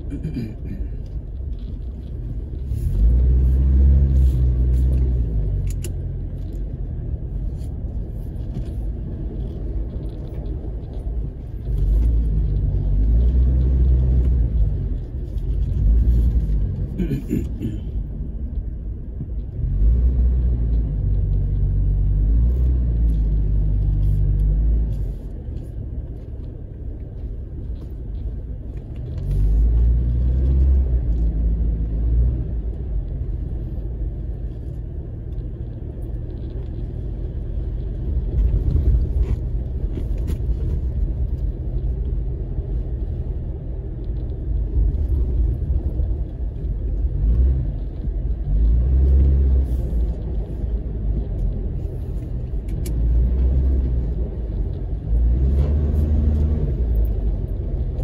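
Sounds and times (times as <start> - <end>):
engine and tyre drone: 0.0 - 58.0.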